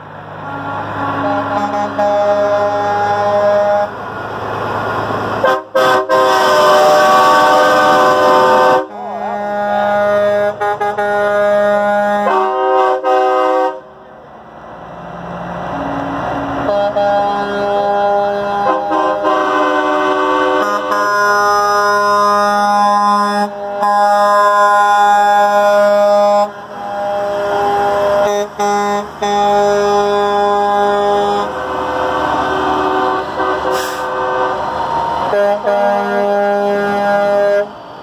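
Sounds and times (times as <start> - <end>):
diesel truck engines passing: 0.0 - 38.0
truck air horn blasts: 0.4 - 4.0, 5.4 - 13.9, 15.7 - 37.7.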